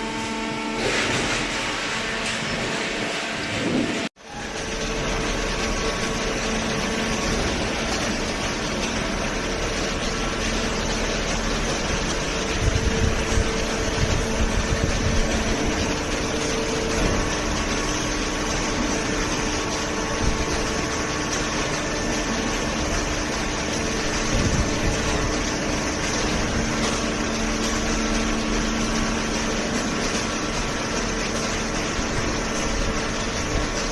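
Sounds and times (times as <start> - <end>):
hydraulic baler running: 0.0 - 33.9.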